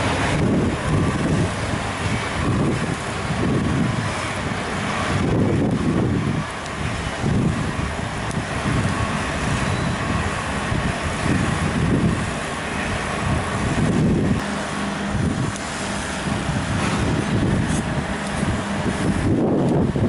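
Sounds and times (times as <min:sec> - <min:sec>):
vehicle rumble: 0:00.0 - 0:20.0
wind buffeting microphone: 0:00.0 - 0:20.0.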